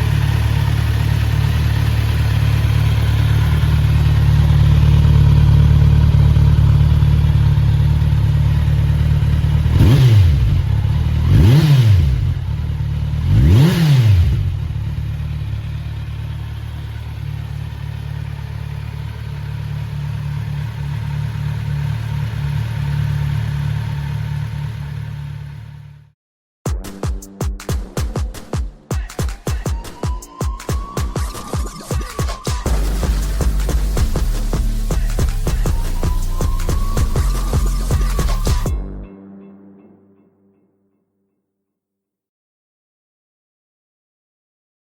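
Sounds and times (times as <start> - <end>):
motorcycle engine idling and revving: 0.0 - 26.2, 27.6 - 39.0.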